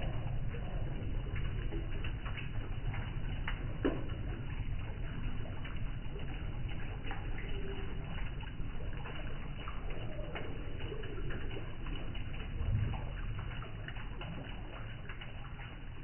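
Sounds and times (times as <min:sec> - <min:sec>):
waterfall splashing into basin: 0:00.0 - 0:16.0.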